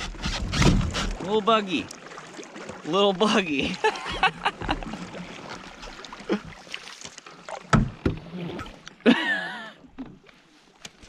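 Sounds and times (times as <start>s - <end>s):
paddle pulling through water: 0.0s - 11.0s.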